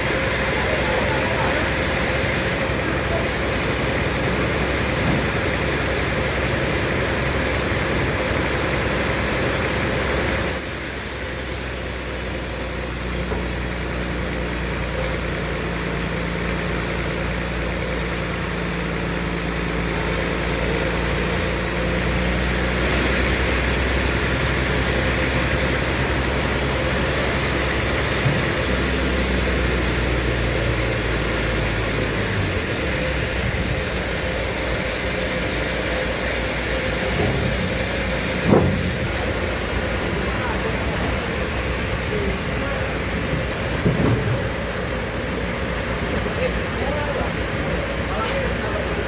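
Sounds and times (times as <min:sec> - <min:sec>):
sawmill machinery running: 0:00.0 - 0:49.0.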